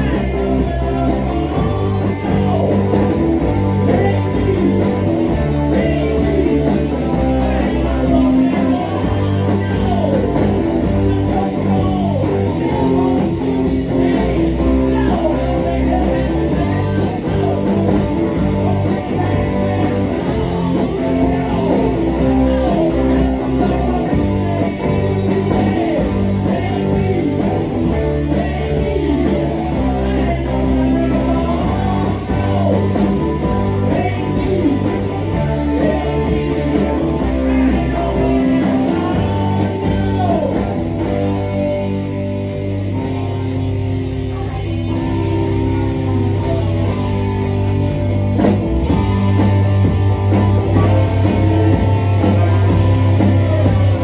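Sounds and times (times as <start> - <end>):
drum kit beat: 0.0 - 43.9, 46.4 - 47.8, 48.4 - 54.0
electric bass: 0.0 - 54.0
electric guitars: 0.0 - 54.0.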